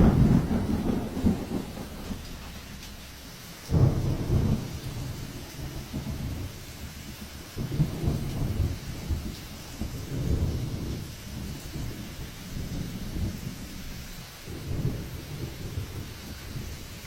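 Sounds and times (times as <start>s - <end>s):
heavy rain hiss: 0.0s - 17.0s
rumbling wind gusts: 0.0s - 17.0s.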